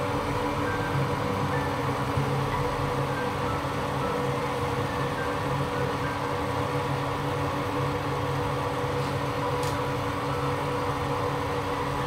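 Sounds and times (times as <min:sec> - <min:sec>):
cooktop fan hum: 0:00.0 - 0:12.0.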